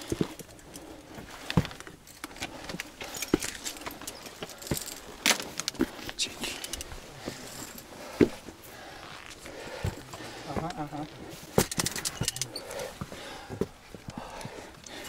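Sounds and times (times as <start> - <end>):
gear jingling and clinking: 0.0 - 9.5, 10.2 - 13.2, 14.0 - 15.0
footsteps on rock: 1.2 - 6.2, 6.8 - 15.0.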